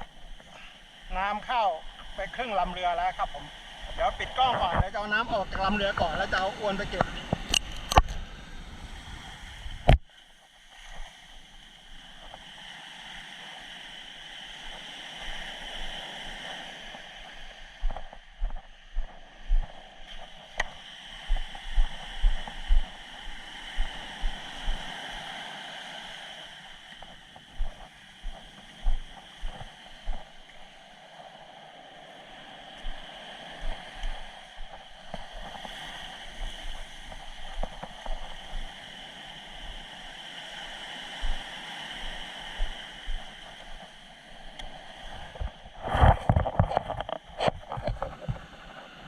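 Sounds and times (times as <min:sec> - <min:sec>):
sea surf: 0:00.0 - 0:49.0.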